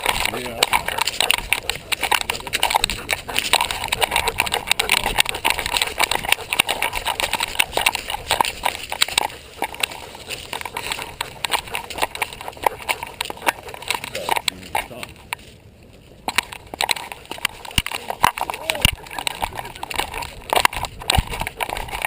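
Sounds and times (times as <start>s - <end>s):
clicks knocks and scuffs: 0.0s - 22.0s.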